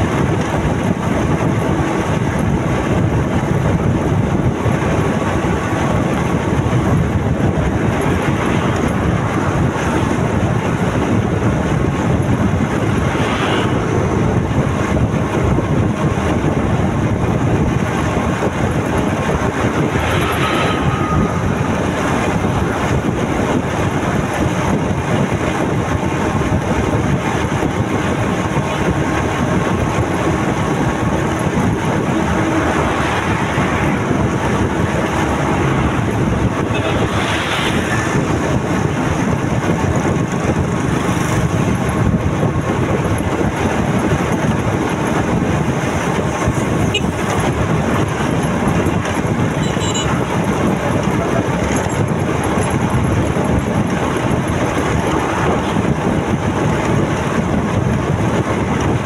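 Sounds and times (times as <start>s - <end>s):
motorcycle road noise: 0.0s - 59.0s
wind rush: 0.0s - 59.0s.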